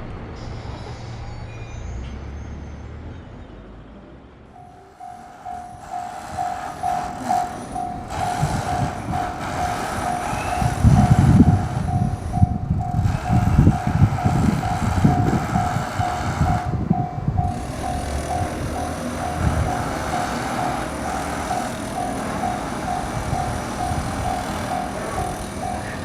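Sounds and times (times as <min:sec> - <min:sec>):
train wheels rumbling and clattering: 0:04.5 - 0:26.0
level crossing alarm ringing: 0:04.6 - 0:26.0.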